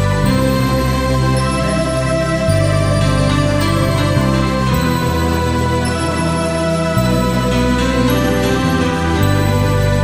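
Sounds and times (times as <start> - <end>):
background music sustained chords: 0.0 - 10.0.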